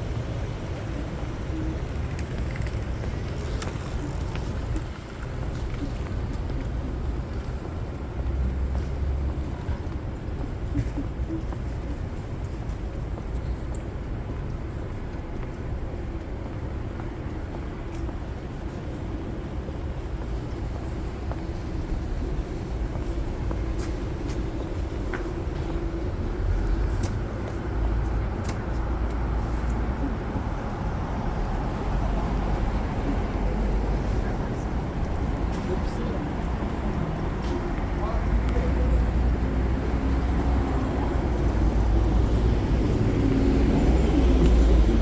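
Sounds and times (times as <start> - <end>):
rumble of passing vehicles: 0.0 - 45.0.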